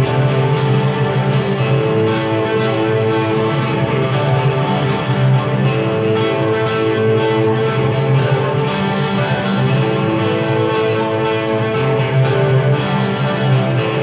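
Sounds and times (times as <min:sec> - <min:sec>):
guitar played in the room: 0:00.0 - 0:14.0
rock band playing from tv: 0:00.0 - 0:14.0.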